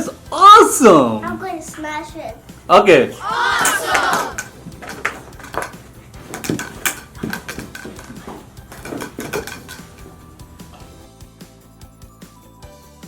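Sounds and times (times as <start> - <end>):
faint music: 0.0 - 12.5.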